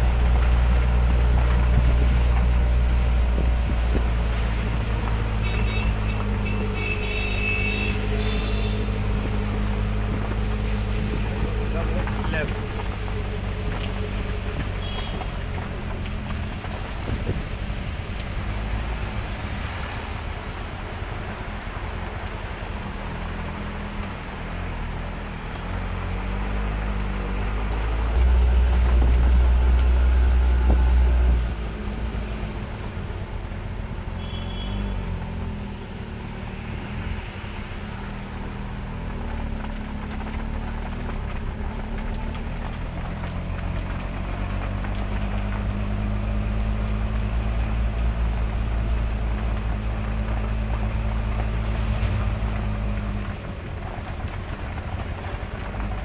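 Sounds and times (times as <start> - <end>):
heavy low rumble: 0.0 - 24.5, 26.2 - 34.1, 35.2 - 56.0
steady rain: 0.0 - 56.0
vehicle engine running: 0.0 - 56.0.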